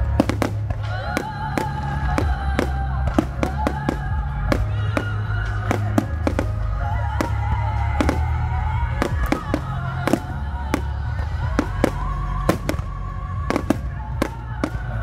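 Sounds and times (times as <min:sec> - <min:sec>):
fireworks bangs: 0:00.0 - 0:15.0
music with steady bass: 0:00.0 - 0:15.0.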